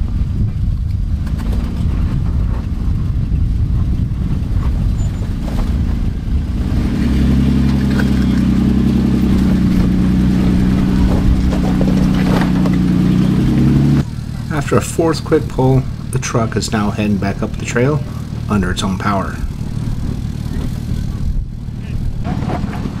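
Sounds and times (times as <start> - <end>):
off-road vehicle engine rumbling: 0.0 - 23.0.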